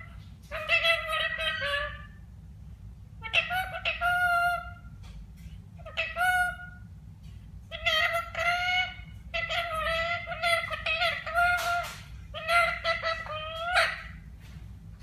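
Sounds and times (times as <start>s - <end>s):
parrot calling: 0.0s - 2.4s, 3.2s - 14.6s.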